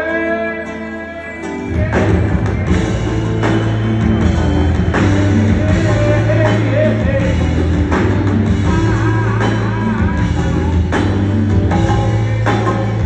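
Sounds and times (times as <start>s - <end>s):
acoustic guitar: 0.0s - 13.0s
drums: 0.0s - 13.0s
bass line: 1.6s - 13.0s.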